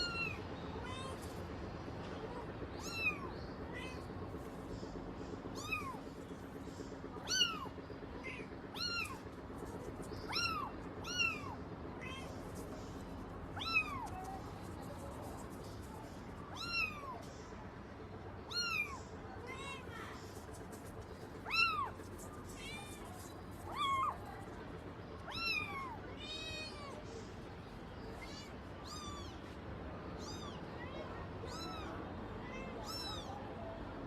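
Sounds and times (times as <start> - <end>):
cats meowing: 0.0 - 1.5, 2.2 - 4.5, 5.4 - 6.2, 7.2 - 17.3, 18.4 - 24.6, 25.2 - 33.6.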